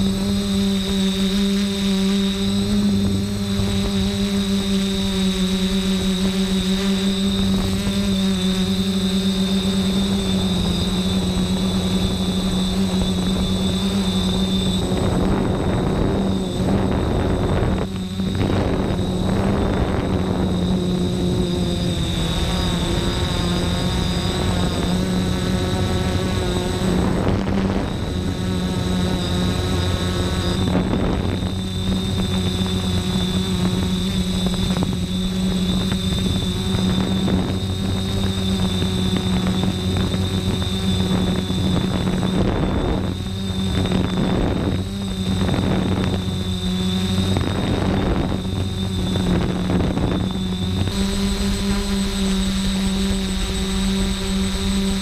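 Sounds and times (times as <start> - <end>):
drone rotors humming and whining: 0.0 - 55.0
rough wavering mechanical noise: 0.0 - 55.0.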